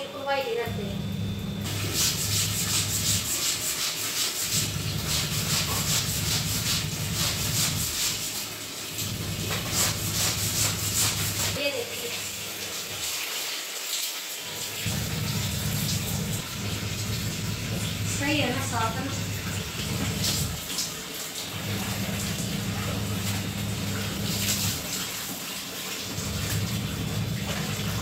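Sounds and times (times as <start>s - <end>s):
washing machine motor humming: 0.0s - 13.3s, 14.5s - 28.0s
garment scrubbed on wet tiles: 1.6s - 28.0s.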